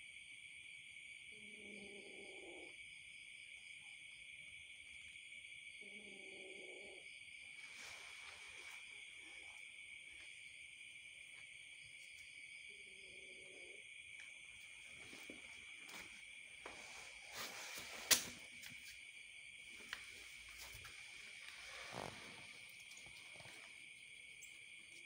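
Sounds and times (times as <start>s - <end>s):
crickets chirring: 0.0s - 25.0s.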